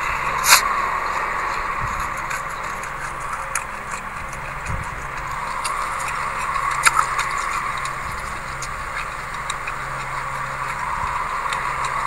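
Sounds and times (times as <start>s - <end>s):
chewing crunchy seeds: 0.0s - 12.0s
faint low hum: 0.0s - 12.0s
steady hiss: 0.0s - 12.0s.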